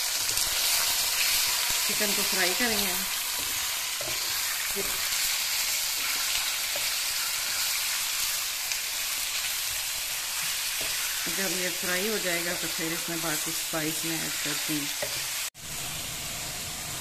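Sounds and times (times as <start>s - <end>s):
chicken sizzling in oil: 0.0s - 17.0s
wooden spatula scraping: 0.2s - 8.4s, 9.2s - 15.4s.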